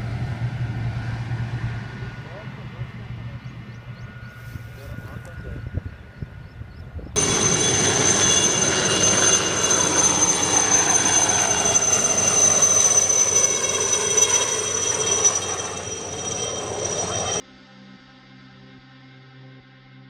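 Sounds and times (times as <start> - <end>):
jet aircraft flying past: 0.0 - 17.4.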